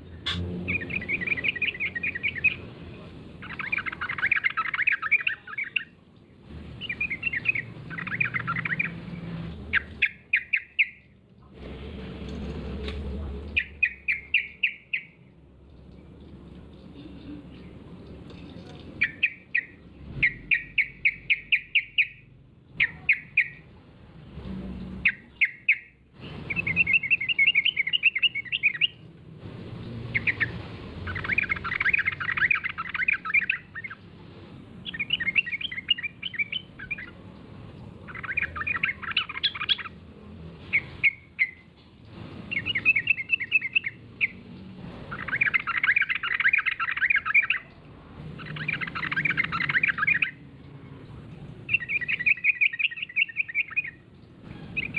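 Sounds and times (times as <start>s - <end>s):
bulbul chattering song: 0.0s - 6.0s, 6.7s - 11.2s, 13.4s - 15.4s, 16.7s - 23.7s, 25.0s - 29.1s, 30.0s - 41.7s, 42.5s - 54.9s.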